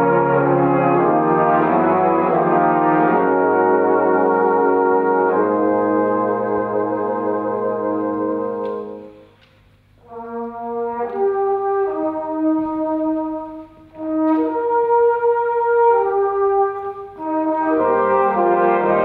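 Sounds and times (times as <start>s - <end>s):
brass band playing chords: 0.0s - 19.0s.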